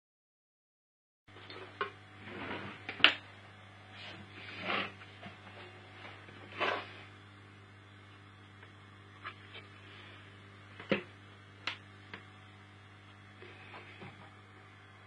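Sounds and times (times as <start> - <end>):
steady low hum: 1.3 - 15.0.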